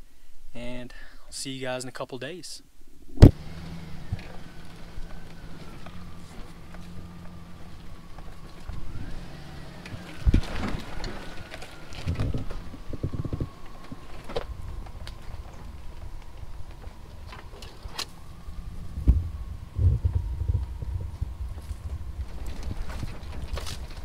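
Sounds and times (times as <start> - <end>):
faint whine: 2.6 - 24.0
suspension clunking over rocks: 3.2 - 24.0
truck engine rumble: 3.2 - 24.0.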